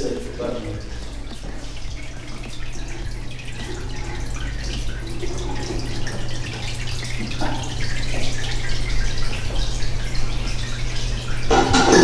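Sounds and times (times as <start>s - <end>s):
steady low hum: 0.0s - 12.0s
water dripping and trickling: 0.0s - 12.0s.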